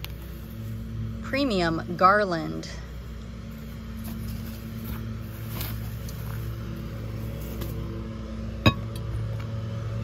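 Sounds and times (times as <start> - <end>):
lawn mower engine drone: 0.0 - 10.0.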